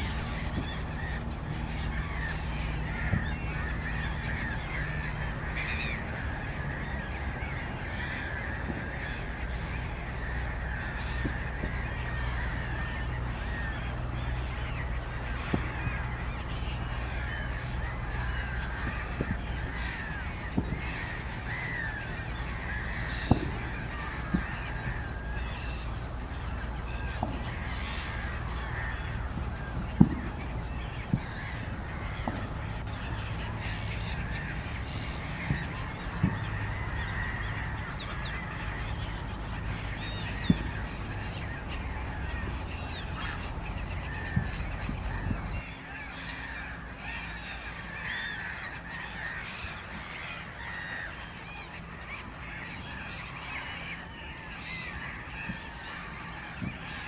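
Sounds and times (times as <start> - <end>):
low steady rumble: 0.0 - 57.0
waterbirds calling: 0.0 - 57.0.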